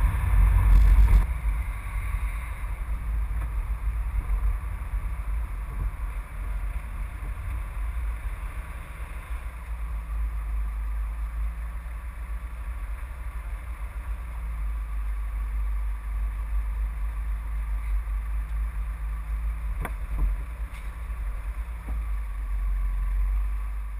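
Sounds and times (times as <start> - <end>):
moving car rumble: 0.0 - 23.9.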